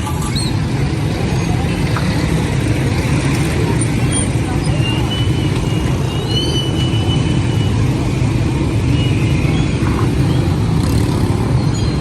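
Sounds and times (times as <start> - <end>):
heavy vehicle rumbling: 0.0 - 12.0.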